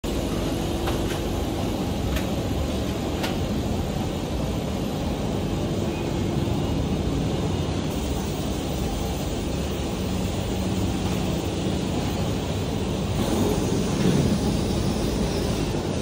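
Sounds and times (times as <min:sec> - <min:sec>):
factory hall rumble: 0:00.0 - 0:16.0.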